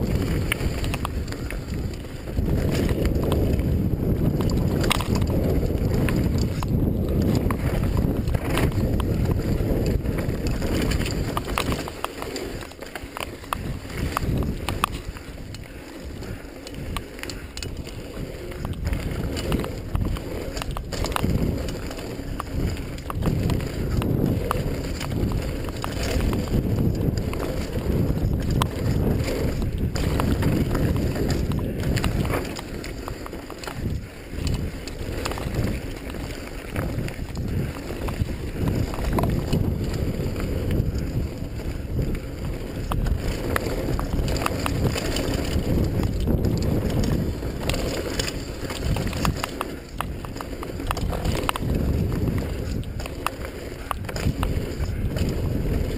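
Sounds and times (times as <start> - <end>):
bike knocks and rattles: 0.0 - 55.9
tyres rolling on gravel: 0.0 - 55.9
wind rushing over microphone: 0.0 - 55.9.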